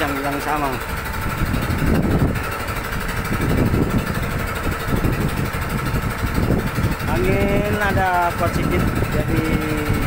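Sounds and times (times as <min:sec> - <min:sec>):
boat engine running: 0:00.0 - 0:10.0
wind buffeting microphone: 0:00.6 - 0:10.0.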